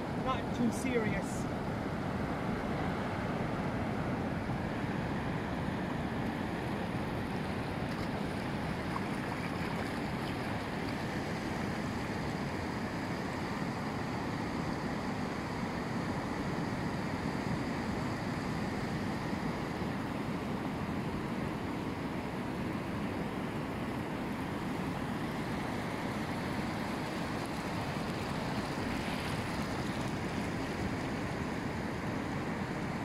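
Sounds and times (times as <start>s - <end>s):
surf waves breaking on beach: 0.0s - 33.0s.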